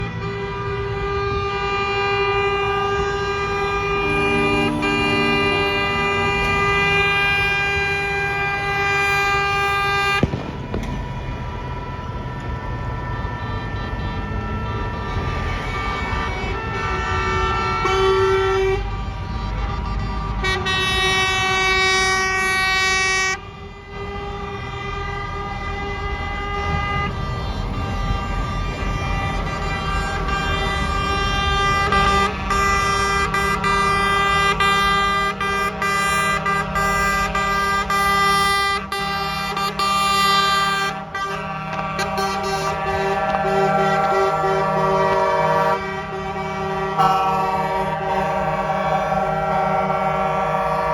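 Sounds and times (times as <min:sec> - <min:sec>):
truck engines rumbling: 0:00.0 - 0:50.9
truck horns blasting: 0:00.0 - 0:50.9.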